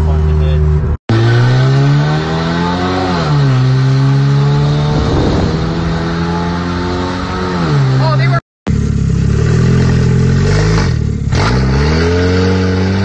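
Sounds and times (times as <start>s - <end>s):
car engine and exhaust: 0.0s - 13.0s.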